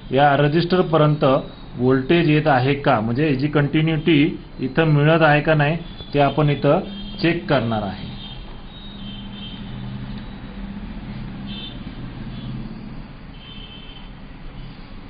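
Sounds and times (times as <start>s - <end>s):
multimeter continuity beeps: 0.0s - 13.8s.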